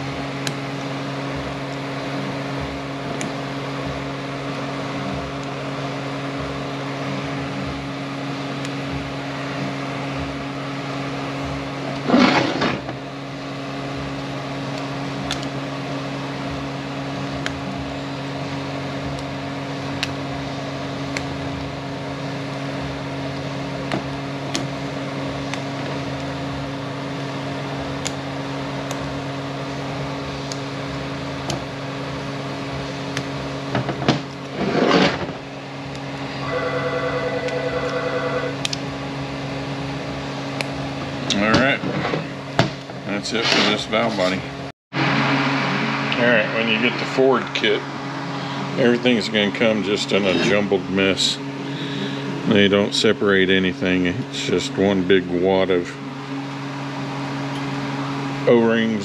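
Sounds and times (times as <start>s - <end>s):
fan humming: 0.0s - 59.0s.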